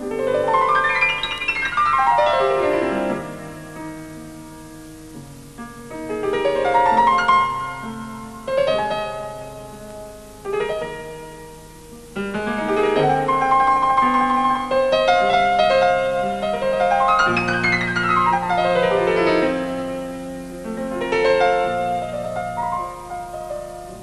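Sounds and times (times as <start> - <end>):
slow lyrical piano piece: 0.0 - 24.0.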